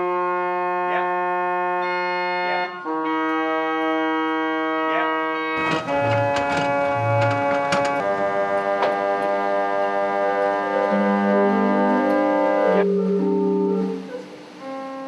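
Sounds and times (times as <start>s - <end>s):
organ-like sustained chords: 0.0s - 15.0s.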